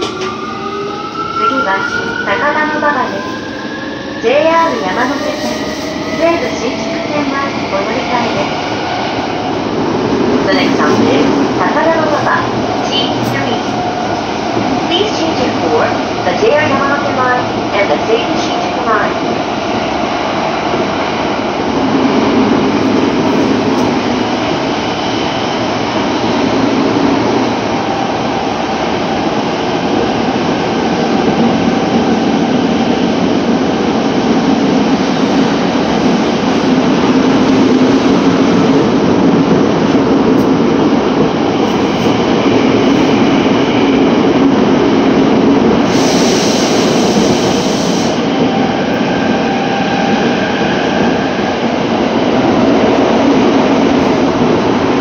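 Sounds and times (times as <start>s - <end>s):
subway train wheels rumbling: 0.0s - 55.0s.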